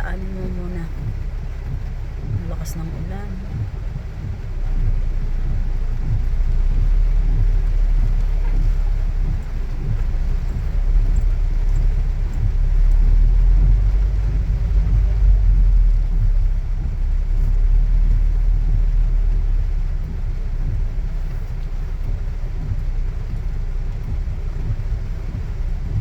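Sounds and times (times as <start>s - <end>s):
car driving low rumble: 0.0s - 26.0s.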